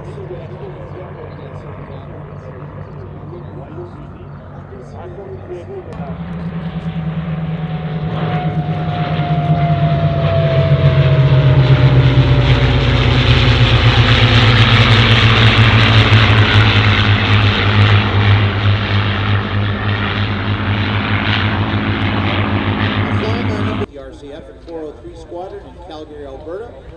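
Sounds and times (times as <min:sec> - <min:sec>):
whining tone falling in pitch: 0:00.0 - 0:23.9
propeller planes droning past: 0:00.0 - 0:26.9.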